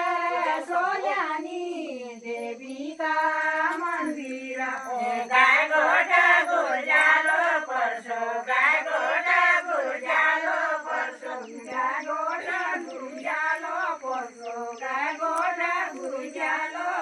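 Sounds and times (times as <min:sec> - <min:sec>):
high voices singing together: 0:00.0 - 0:17.0.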